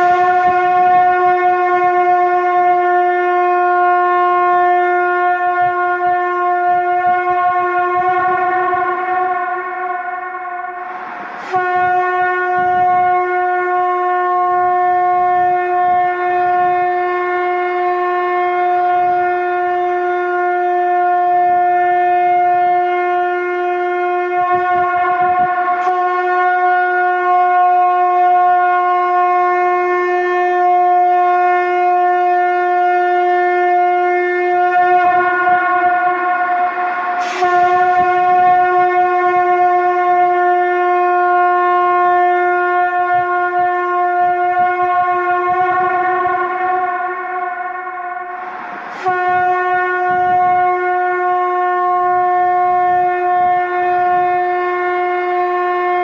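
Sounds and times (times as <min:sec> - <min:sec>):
conch shell trumpet held note: 0:00.0 - 0:56.0.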